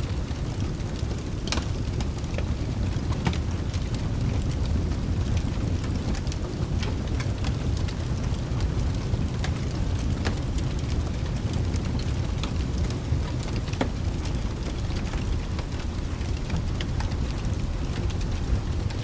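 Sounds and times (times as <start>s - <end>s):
rain: 0.0s - 19.0s
thunder rumble: 0.0s - 19.0s
wood fire crackling: 0.0s - 19.0s.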